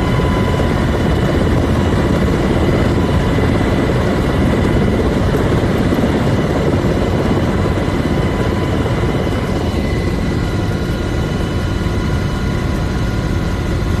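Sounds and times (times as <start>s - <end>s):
aircraft turbine engines running: 0.0s - 14.0s
faint steady whining tones: 0.0s - 14.0s.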